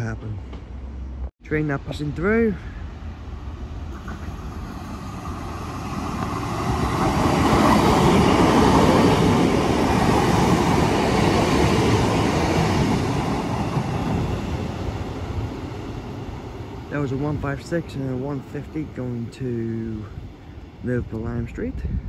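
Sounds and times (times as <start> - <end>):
diesel train rumble passing: 0.0 - 22.0.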